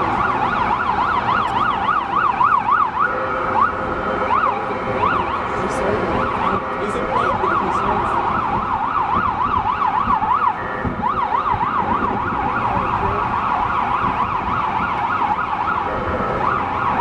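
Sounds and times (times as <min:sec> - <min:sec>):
siren yelping: 0:00.0 - 0:17.0.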